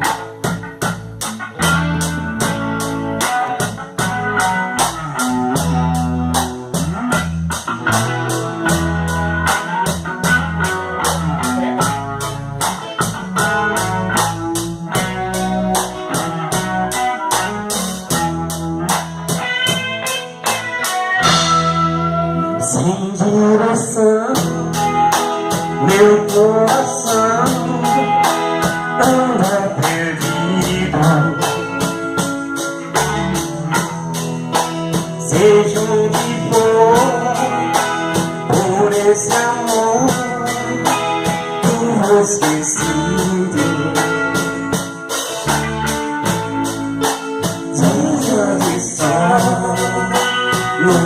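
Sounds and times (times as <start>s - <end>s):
drum kit beat: 0.0s - 51.0s
guitar melody: 0.0s - 51.0s.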